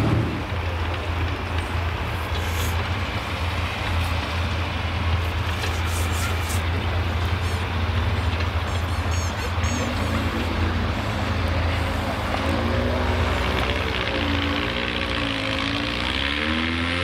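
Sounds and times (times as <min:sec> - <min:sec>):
tractor engine idling: 0:00.0 - 0:16.3.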